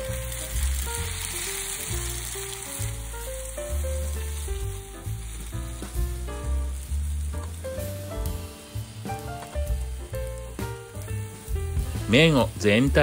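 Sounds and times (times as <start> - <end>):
noodles sizzling in a pan: 0.0 - 13.0
soft background music: 0.0 - 13.0.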